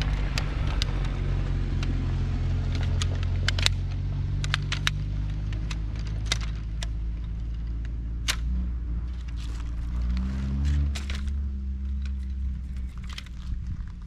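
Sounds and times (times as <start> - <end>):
low engine rumble: 0.0 - 14.0
chair poles clicking together: 1.8 - 14.0.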